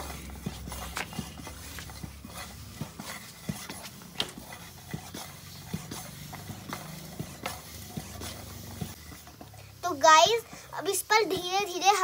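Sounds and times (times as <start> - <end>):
air pump puffs: 0.0 - 12.0.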